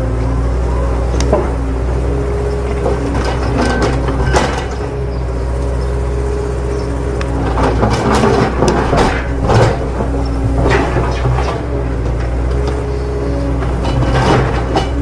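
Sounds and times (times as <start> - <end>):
engine-like drone: 0.0 - 15.0.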